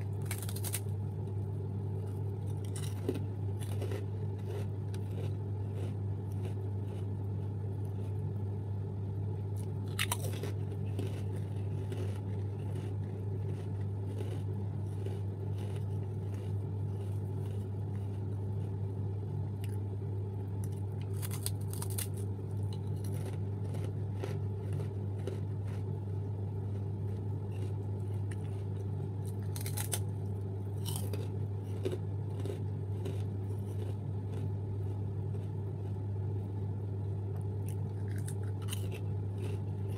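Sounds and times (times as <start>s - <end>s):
chewing crunchy rice crackers: 0.0s - 8.6s, 9.4s - 39.9s
steady low hum: 0.0s - 39.9s.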